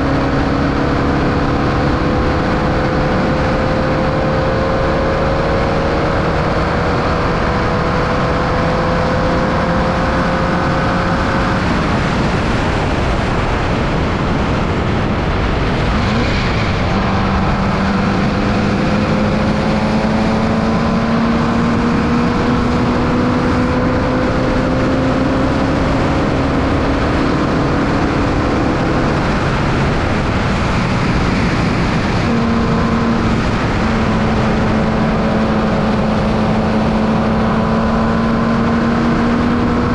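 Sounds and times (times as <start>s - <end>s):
heavy wind noise: 0.0s - 39.9s
race car engine running hard: 0.0s - 39.9s.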